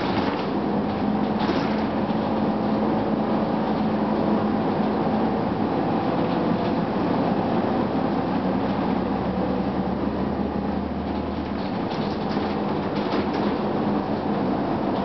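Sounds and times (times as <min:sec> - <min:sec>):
air conditioning rush: 0:00.0 - 0:15.0
bus diesel engine droning: 0:00.0 - 0:15.0.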